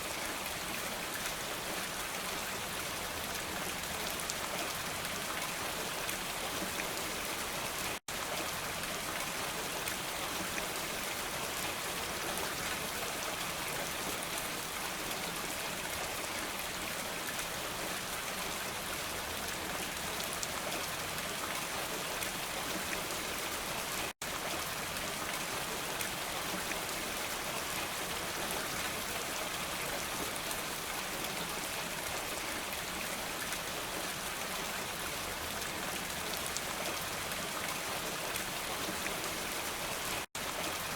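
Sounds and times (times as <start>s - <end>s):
dense rainfall pattering: 0.0s - 40.9s.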